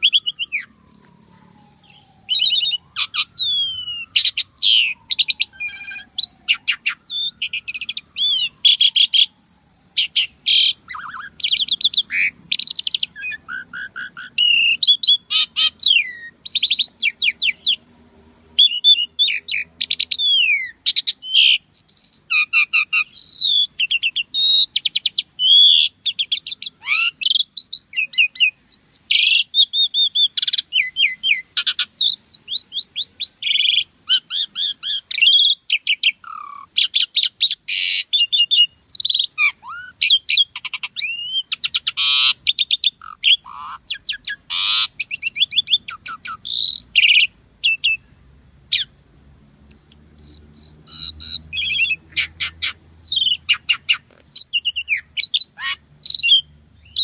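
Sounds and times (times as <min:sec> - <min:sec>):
starling singing: 0:00.0 - 0:49.0, 0:49.7 - 0:57.0.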